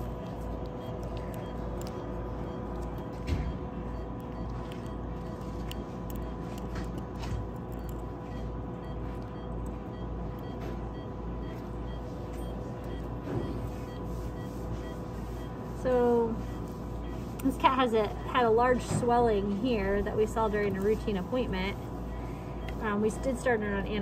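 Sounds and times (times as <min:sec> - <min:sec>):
low machine hum and rumble: 0:00.0 - 0:24.0.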